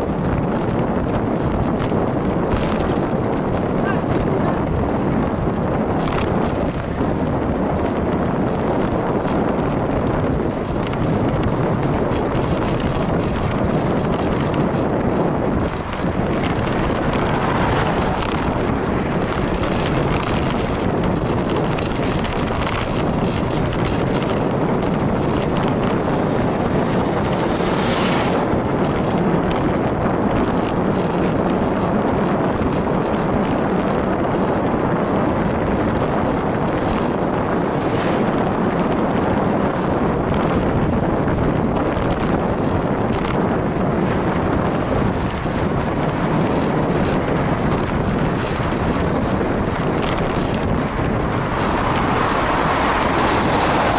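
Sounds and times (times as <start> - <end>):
road and tyre rumble: 0.0 - 53.9
wind rush on microphone: 0.0 - 53.9.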